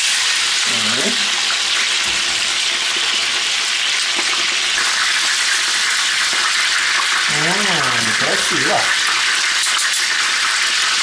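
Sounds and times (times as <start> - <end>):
chicken sizzling in fat: 0.0 - 11.0.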